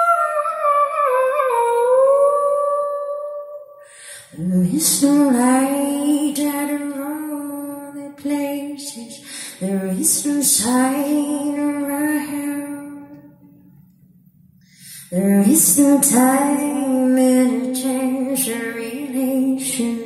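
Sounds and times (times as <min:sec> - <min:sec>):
woman singing through pa: 0:00.0 - 0:13.2, 0:15.1 - 0:20.0.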